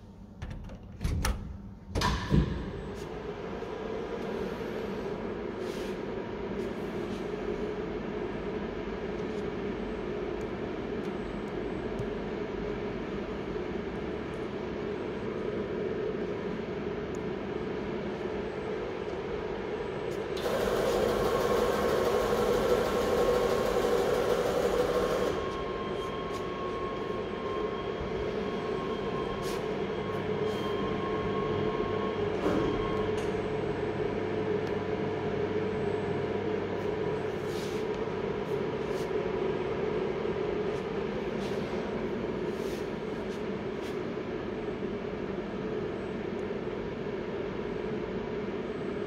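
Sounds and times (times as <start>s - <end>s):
machine hum with whine: 0.0s - 49.0s.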